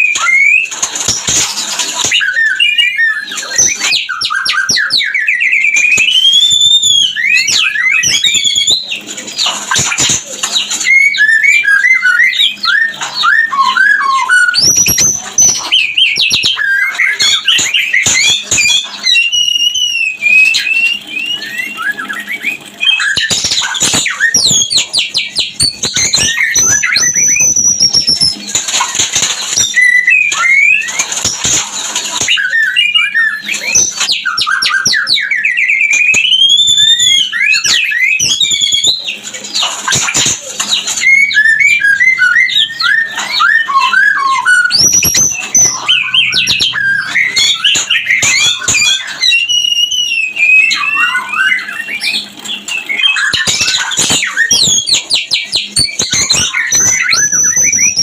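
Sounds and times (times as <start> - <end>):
bird singing whistled phrases: 0.0 - 0.8, 2.0 - 28.8, 29.5 - 58.0
harsh rasping bird calls: 0.1 - 58.0.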